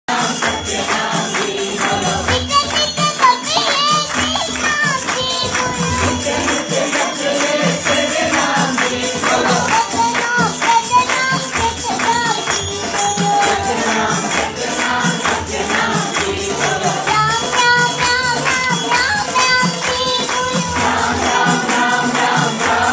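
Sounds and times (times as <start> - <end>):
instrumental music: 0.1 - 22.9
tambourine-like jingle percussion: 0.1 - 22.9
person singing: 0.2 - 22.9.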